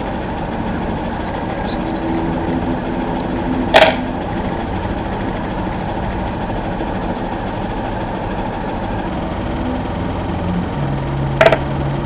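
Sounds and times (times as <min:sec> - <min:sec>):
mechanical room hum: 0:00.0 - 0:12.0.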